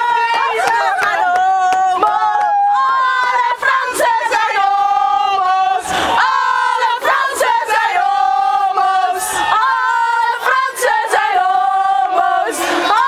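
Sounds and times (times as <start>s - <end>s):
crowd singing and chanting: 0.0s - 13.0s.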